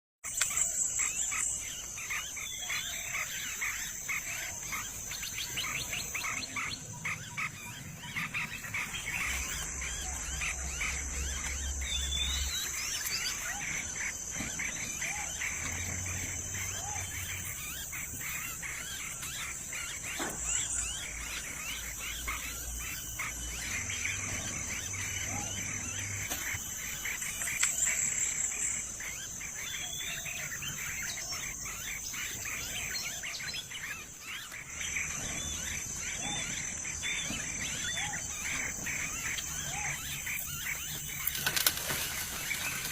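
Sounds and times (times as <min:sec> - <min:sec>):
bird chirps and calls: 0:00.2 - 0:42.9
high-pitched insect drone: 0:00.2 - 0:42.9.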